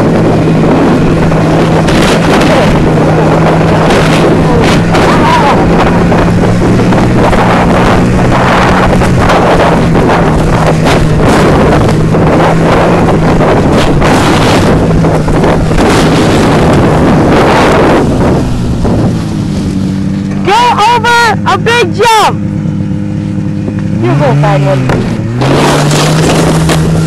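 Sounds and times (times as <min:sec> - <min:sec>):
snowmobile engine running: 0:00.0 - 0:27.0
wind buffeting microphone: 0:00.0 - 0:27.0.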